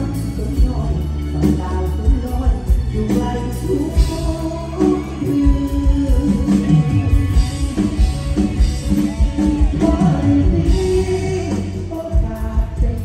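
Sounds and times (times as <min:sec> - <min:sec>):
bass: 0:00.0 - 0:13.0
plucked guitar-like lead: 0:00.0 - 0:13.0
steady drum beat: 0:00.0 - 0:13.0.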